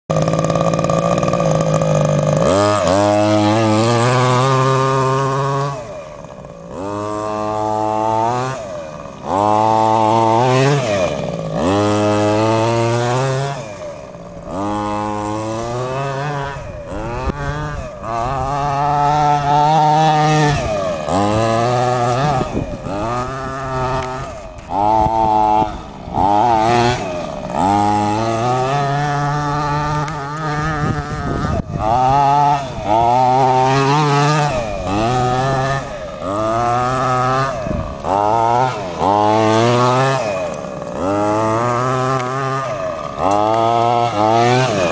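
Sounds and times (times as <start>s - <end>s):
toy truck engine revving: 0.1s - 44.9s.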